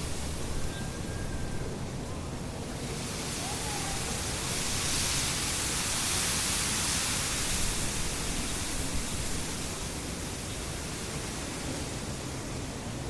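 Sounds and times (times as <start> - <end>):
low rumble of wind: 0.0 - 13.0
wind rustling reeds: 0.0 - 13.0.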